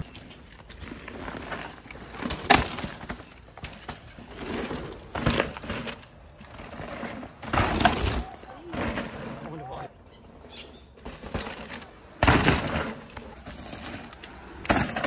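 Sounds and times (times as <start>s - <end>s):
bike tyres rolling over dirt: 0.0s - 15.0s
sharp knocks from bikes: 0.8s - 9.3s, 11.0s - 15.0s.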